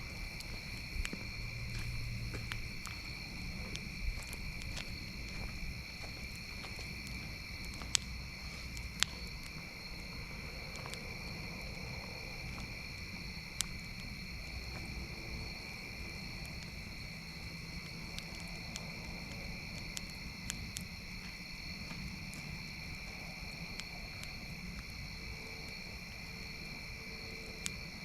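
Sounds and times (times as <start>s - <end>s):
campfire crackling and popping: 0.0s - 27.0s
night insects chirring: 0.0s - 28.0s.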